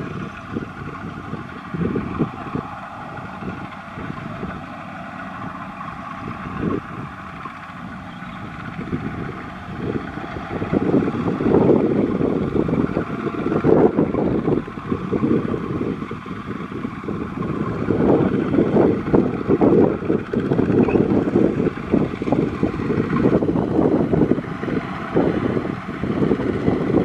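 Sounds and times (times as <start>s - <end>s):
diesel tractor engine straining: 0.0s - 27.0s.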